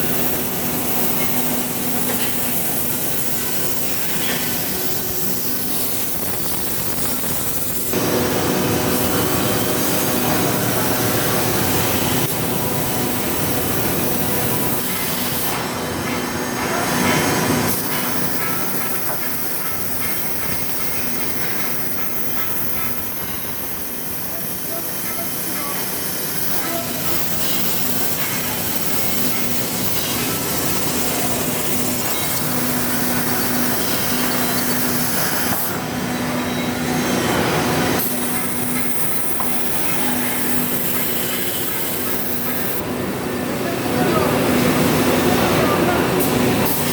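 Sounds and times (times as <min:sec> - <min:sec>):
cnc drilling machine running: 0:00.0 - 0:46.9.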